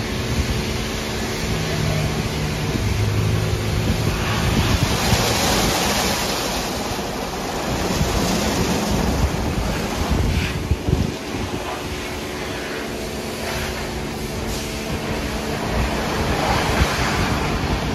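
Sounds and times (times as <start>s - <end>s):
car wash brushes scrubbing: 0.0s - 17.9s
low machine hum: 0.0s - 17.9s.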